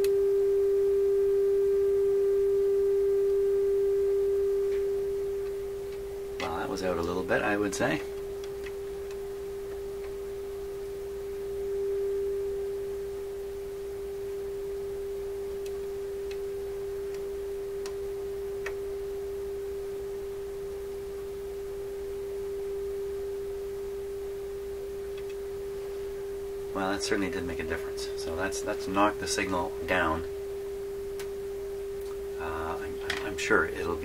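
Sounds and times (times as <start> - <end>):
steady test tone from speaker: 0.0 - 34.0.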